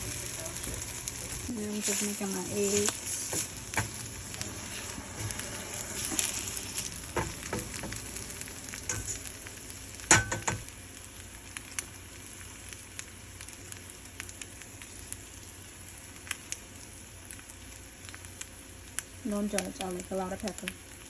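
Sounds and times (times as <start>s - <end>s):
eggs sizzling in a pan: 0.0s - 21.0s.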